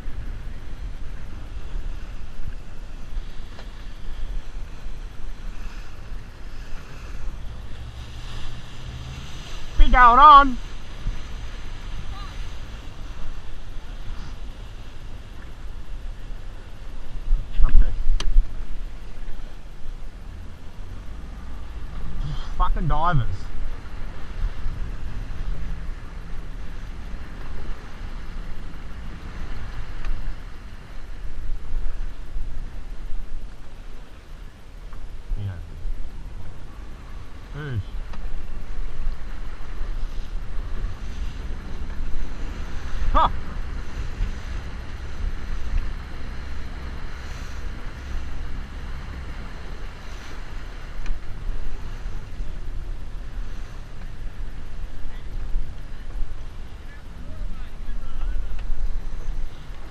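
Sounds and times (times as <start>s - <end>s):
boat motor running: 0.0s - 59.9s
sea noise: 0.0s - 59.9s
wind rumbling on microphone: 0.0s - 59.9s.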